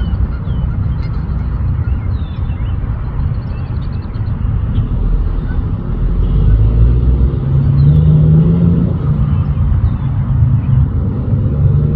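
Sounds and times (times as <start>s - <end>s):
loud low rumble: 0.0s - 11.9s.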